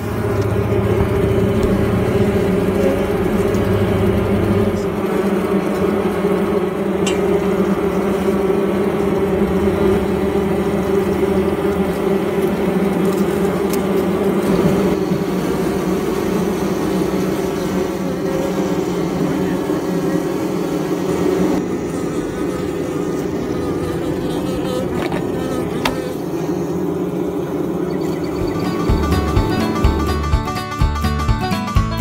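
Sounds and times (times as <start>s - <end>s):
bees buzzing: 0.0s - 31.7s.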